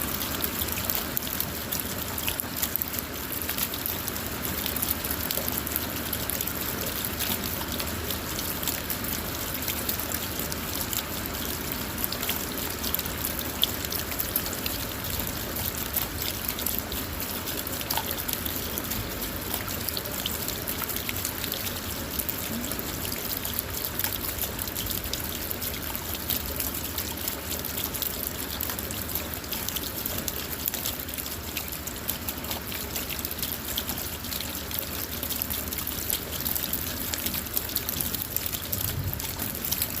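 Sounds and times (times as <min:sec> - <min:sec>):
constant wash of rain: 0:00.0 - 0:40.0
rain drops ticking on car roof: 0:00.0 - 0:40.0.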